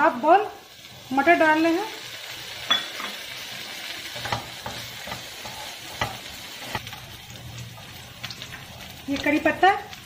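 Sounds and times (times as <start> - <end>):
light sizzle of frying: 0.0 - 10.0
spatula stirring vegetables in pan: 0.5 - 10.0.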